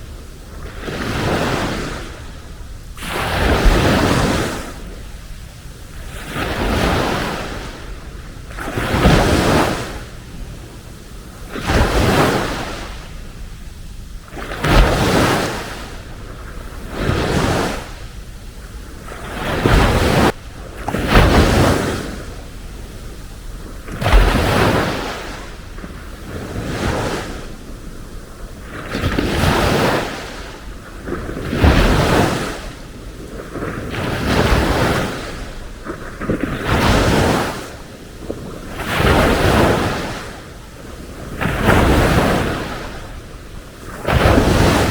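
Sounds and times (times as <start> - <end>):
sea waves breaking on beach: 0.0 - 44.9.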